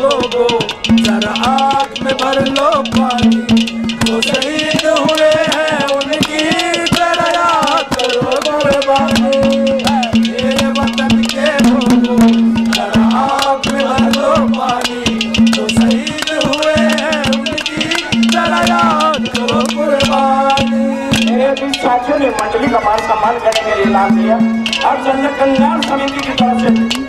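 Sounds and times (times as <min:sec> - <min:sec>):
harmonium melody: 0:00.0 - 0:27.0
rattling hand percussion: 0:00.0 - 0:27.0.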